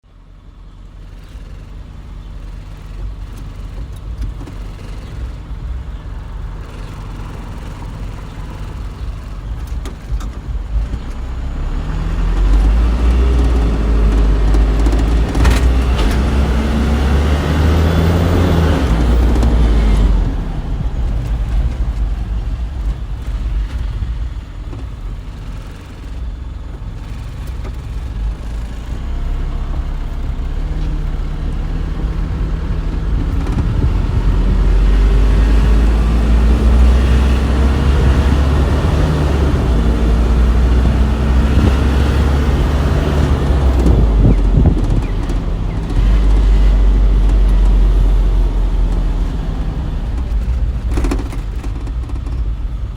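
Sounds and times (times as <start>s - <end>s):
diesel truck engine rumbling: 0.0s - 52.9s.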